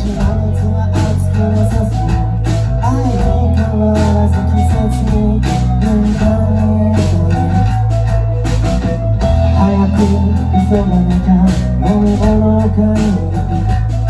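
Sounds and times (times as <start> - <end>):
bass guitar: 0.0 - 14.0
distorted electric guitars: 0.0 - 14.0
drum kit: 0.0 - 14.0
man singing: 0.0 - 14.0.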